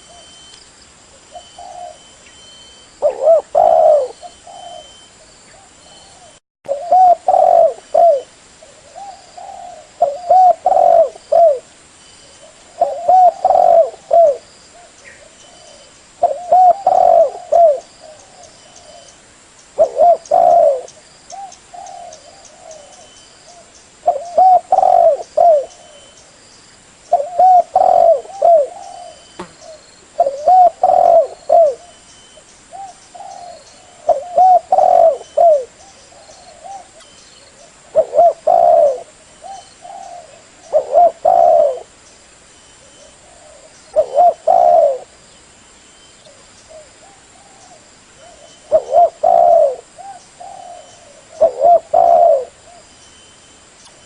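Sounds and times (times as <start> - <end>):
dove cooing: 1.3 - 11.7, 12.3 - 19.1, 19.8 - 26.2, 27.1 - 32.0, 32.7 - 42.0, 42.8 - 45.2, 46.2 - 52.9.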